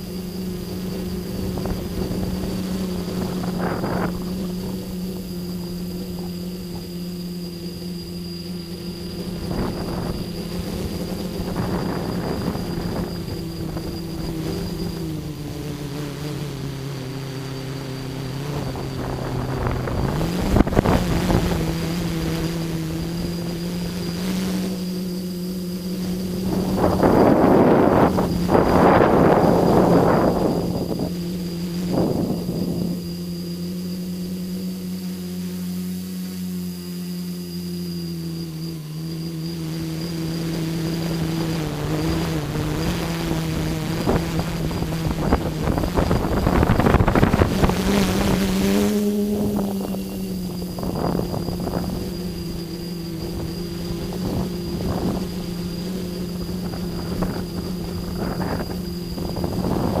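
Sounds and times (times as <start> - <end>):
wind rushing over microphone: 0.0 - 34.4, 40.3 - 60.0
drone motors and propellers humming: 0.0 - 60.0.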